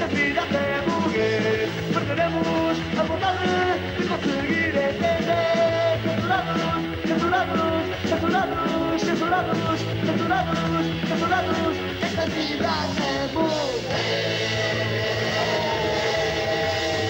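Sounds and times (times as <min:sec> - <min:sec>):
person singing: 0:00.0 - 0:17.0
punk rock band playing live: 0:00.0 - 0:17.0.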